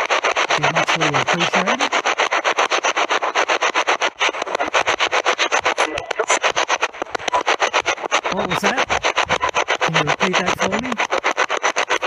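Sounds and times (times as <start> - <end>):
radio static bursts: 0.0 - 12.0.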